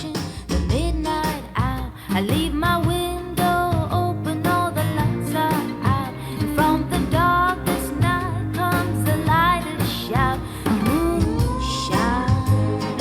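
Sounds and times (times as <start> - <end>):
song through desktop speakers: 0.0 - 13.0.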